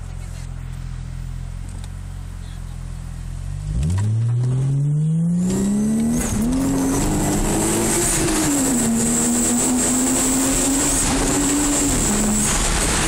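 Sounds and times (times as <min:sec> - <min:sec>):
car engine accelerating: 0:00.4 - 0:13.0.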